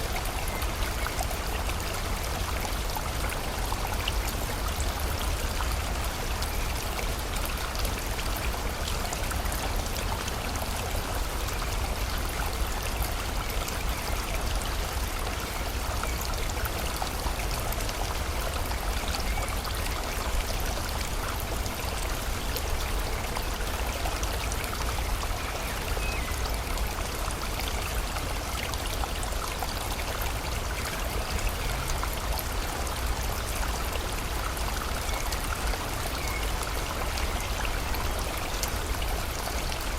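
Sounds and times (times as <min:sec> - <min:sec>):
river flowing: 0:00.0 - 0:39.9
steady rain falling: 0:00.0 - 0:39.9.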